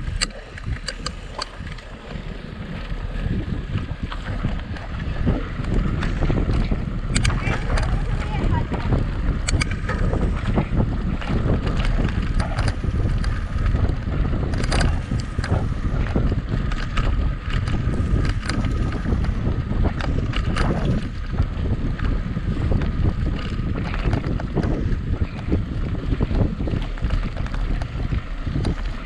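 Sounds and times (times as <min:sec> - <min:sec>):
bike clicks and knocks: 0:00.0 - 0:02.2, 0:03.8 - 0:29.0
wind buffeting microphone: 0:00.0 - 0:29.0.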